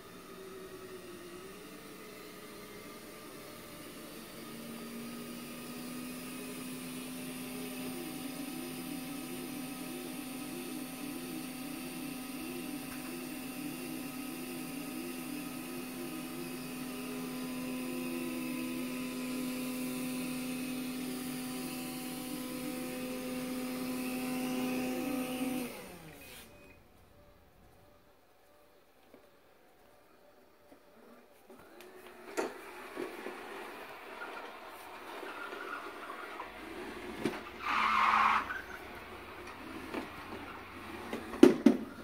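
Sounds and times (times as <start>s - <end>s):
robot vacuum motor hum: 0.0s - 26.8s, 31.0s - 42.0s.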